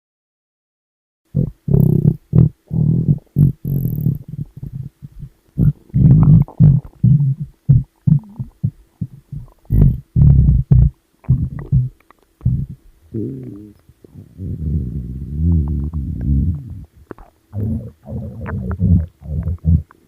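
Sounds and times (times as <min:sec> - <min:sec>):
stomach growling: 0:01.3 - 0:20.0.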